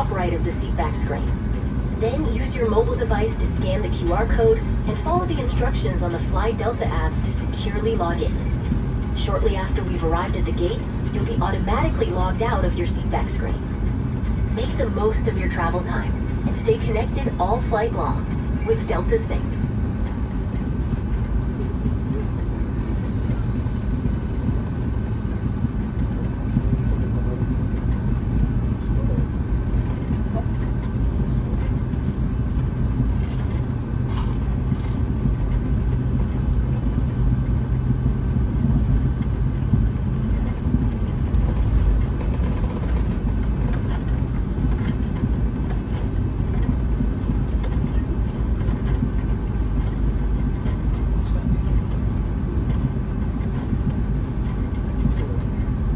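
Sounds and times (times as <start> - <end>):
airliner cabin rumble: 0.0 - 55.9.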